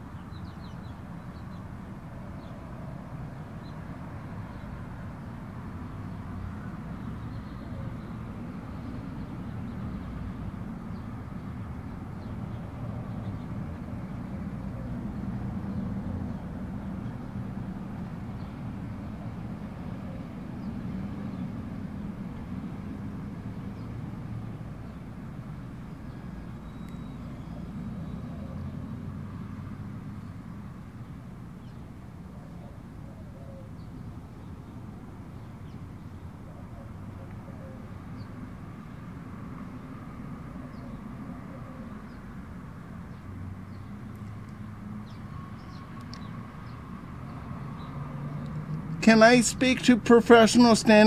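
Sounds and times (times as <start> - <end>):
low outdoor background rumble: 0.0 - 51.0.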